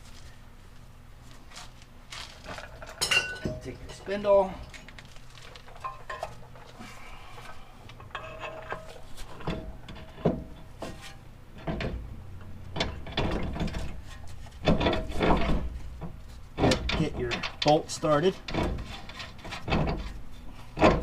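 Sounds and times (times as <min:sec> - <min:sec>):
metal clanks and knocks: 0:02.4 - 0:21.0.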